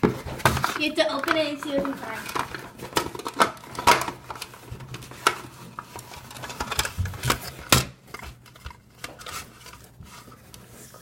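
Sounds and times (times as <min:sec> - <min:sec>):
rummaging in a box: 0:00.0 - 0:11.0.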